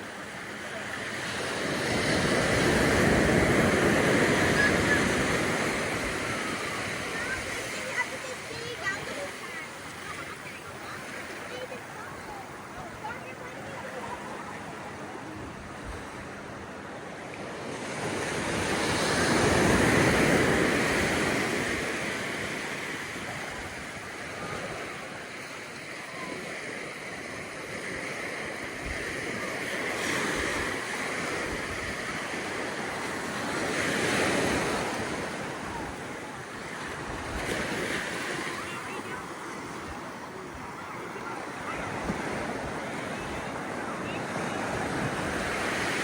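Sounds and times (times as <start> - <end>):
ocean surf breaking: 0.0 - 46.0.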